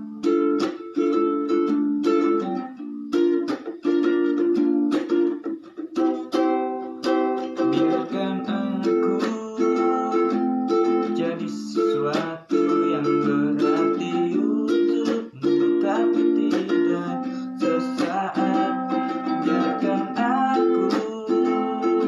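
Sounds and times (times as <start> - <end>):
plucked strings playing chords: 0.0 - 22.0.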